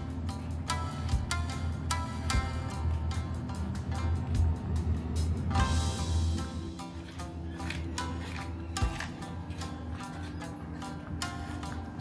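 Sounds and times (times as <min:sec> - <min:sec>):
music with deep bass beat: 0:00.0 - 0:12.0.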